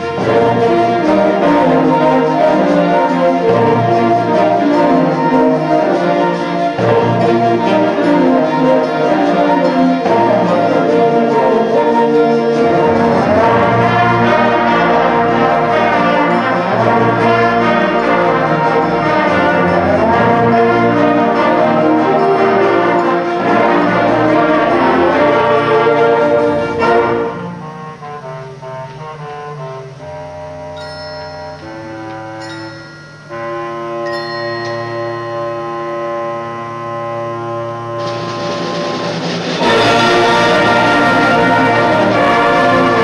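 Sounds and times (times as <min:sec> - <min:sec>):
brass instruments: 0:00.0 - 0:43.0
concert band playing: 0:00.0 - 0:43.0.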